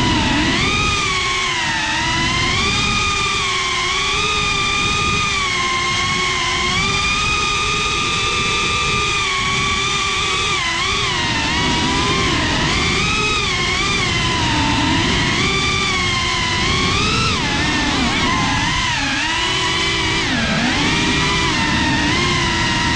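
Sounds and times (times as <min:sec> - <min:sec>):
drone motors whining: 0:00.0 - 0:22.9
wind rumble on microphone: 0:00.0 - 0:22.9.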